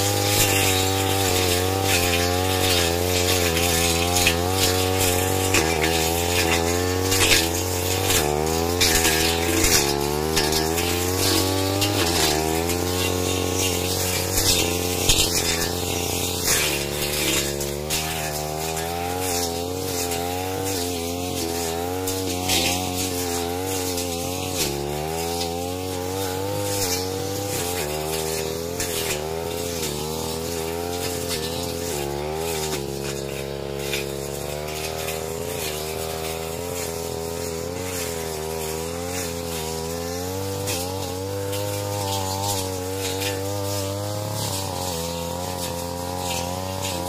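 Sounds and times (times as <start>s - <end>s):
brush cutter engine running: 0.0s - 47.0s
grass crackling as cut: 0.0s - 47.0s.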